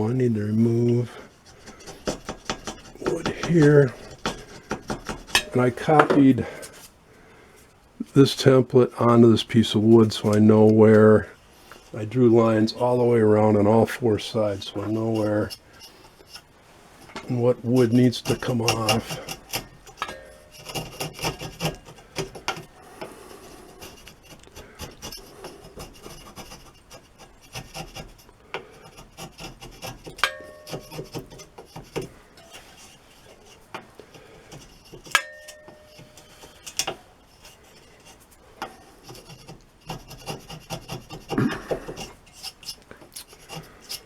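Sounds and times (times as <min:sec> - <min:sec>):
wood chisel paring and scraping: 0:00.0 - 0:06.9, 0:10.0 - 0:44.0.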